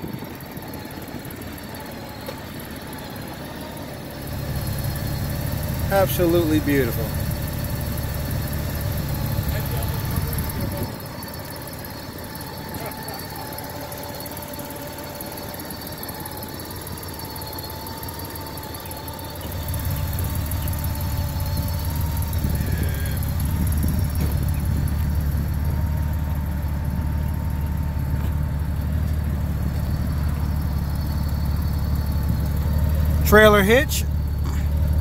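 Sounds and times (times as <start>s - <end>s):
vehicle engine idling: 0.0s - 35.0s.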